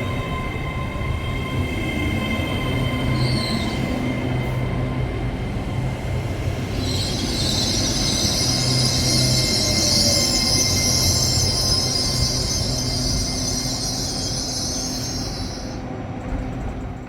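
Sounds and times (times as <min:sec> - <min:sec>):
diesel locomotive engine rumble: 0:00.0 - 0:17.0
train wheel squeal: 0:00.0 - 0:17.0.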